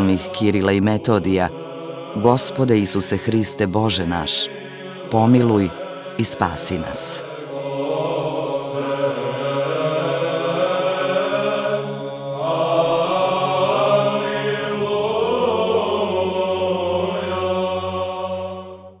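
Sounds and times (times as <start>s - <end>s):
men's voices chanting: 0.0s - 18.6s.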